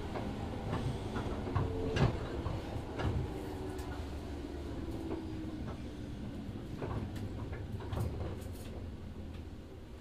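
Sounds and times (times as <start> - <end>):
low rumble of train wheels: 0.0 - 10.0.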